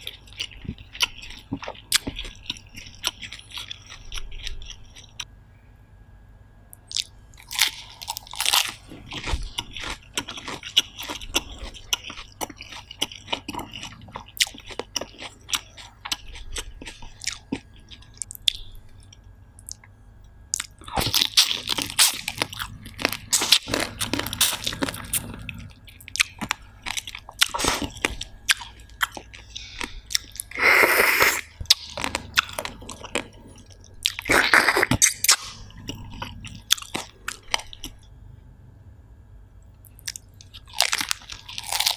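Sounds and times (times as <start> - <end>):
chewing and crunching food: 0.0 - 5.3, 6.7 - 38.2, 39.8 - 41.9.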